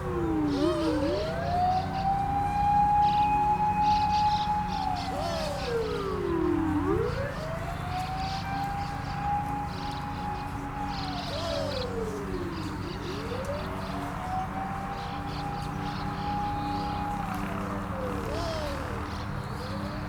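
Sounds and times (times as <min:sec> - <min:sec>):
emergency siren wailing: 0:00.0 - 0:20.0.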